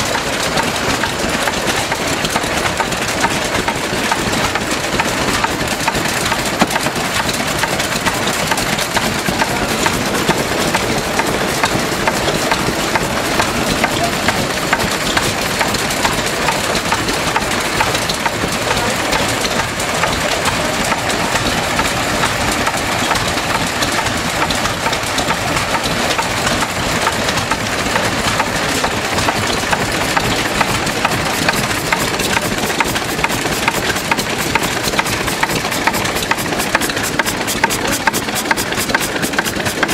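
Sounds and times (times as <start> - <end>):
stationary engines clattering: 0.0 - 39.9.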